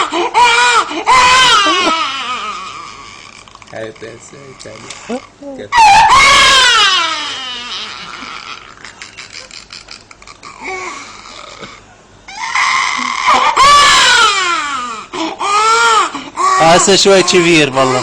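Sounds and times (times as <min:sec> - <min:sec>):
man imitating baby crying: 0:00.0 - 0:09.0, 0:10.2 - 0:18.0.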